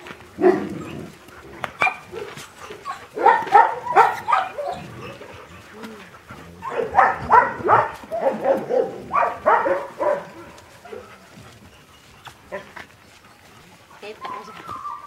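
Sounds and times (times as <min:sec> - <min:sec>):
dogs barking and whining: 0:00.0 - 0:15.0.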